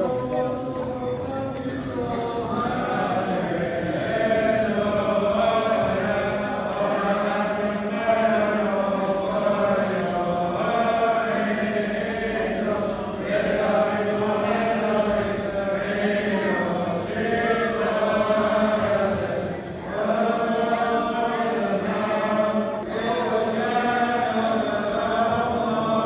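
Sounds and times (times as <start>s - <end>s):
group of voices chanting: 0.0s - 26.0s.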